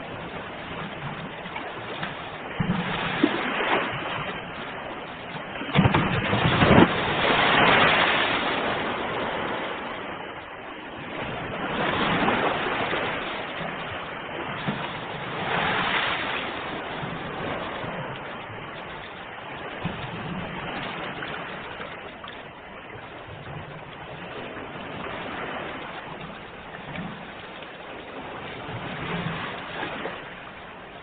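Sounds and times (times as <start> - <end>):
ocean waves breaking on shore: 0.0 - 31.0.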